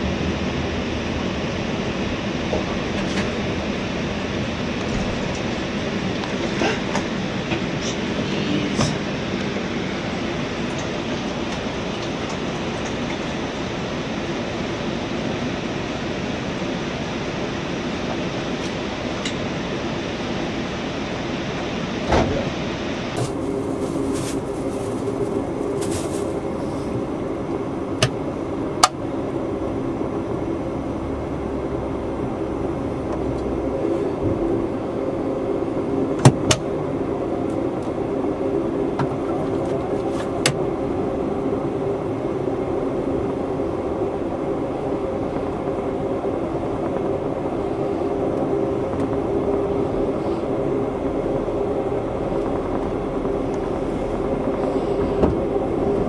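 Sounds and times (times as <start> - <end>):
rumble of moving train: 0.0 - 56.0.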